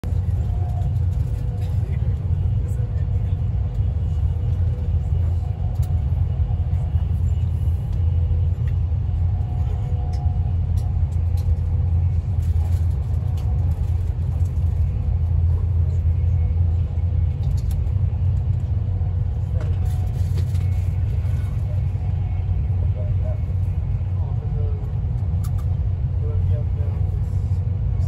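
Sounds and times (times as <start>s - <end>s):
train rumbling at speed: 0.0s - 28.0s.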